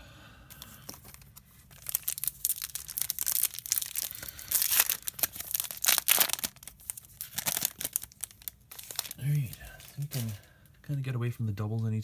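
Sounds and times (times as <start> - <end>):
foil wrapper crinkling: 0.6 - 10.4.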